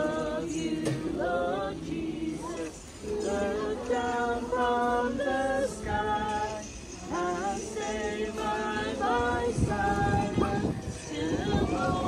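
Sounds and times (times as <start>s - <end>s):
group singing a carol: 0.0s - 12.0s.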